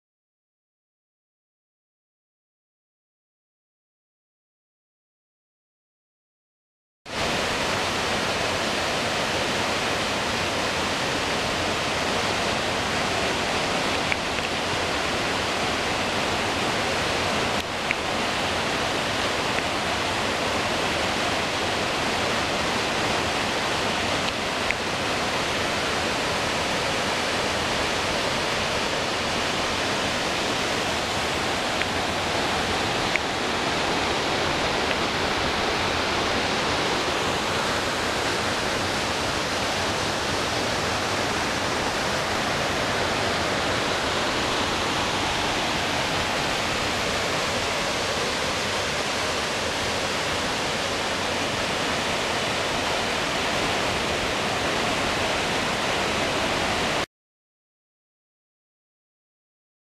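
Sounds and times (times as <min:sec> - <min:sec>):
waterfall pouring into pool: 0:07.1 - 0:56.2.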